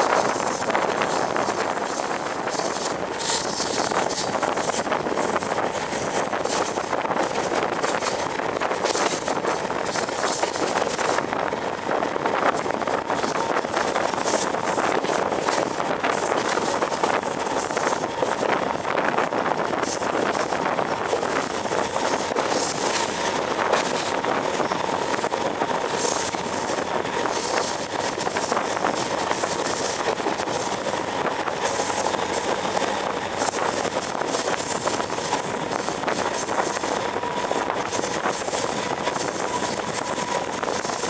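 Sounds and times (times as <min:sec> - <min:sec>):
train wheels clattering on rails: 0:00.0 - 0:41.0.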